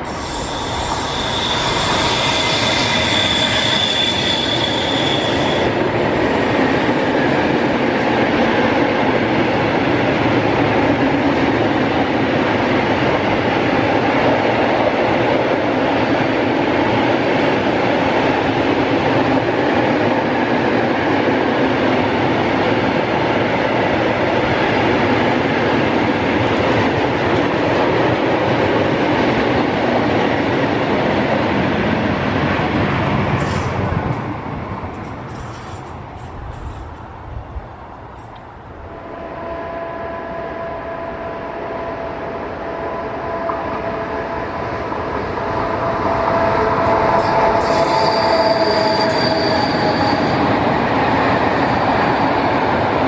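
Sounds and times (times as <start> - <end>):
electric locomotive whine: 0.0 - 53.0
steel wheels rumbling on rail: 0.0 - 53.0.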